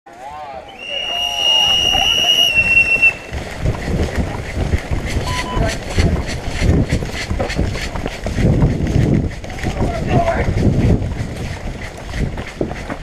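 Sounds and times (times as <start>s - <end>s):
wind and handling rumble: 0.8s - 13.0s
footsteps and gear rattling: 0.9s - 13.0s.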